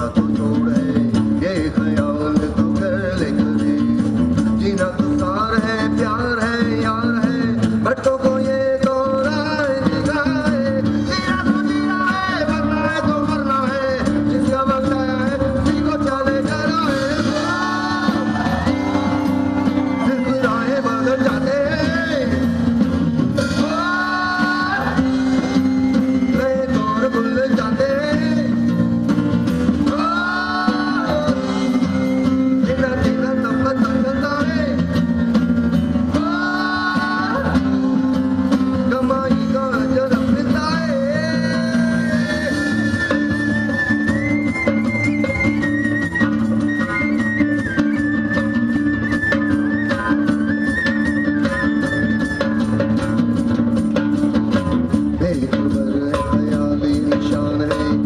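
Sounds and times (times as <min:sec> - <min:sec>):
man singing into a microphone: 0:00.0 - 0:22.7, 0:23.3 - 0:28.9, 0:29.8 - 0:35.4, 0:36.0 - 0:53.0, 0:55.1 - 0:58.0
live band playing: 0:00.0 - 0:58.0.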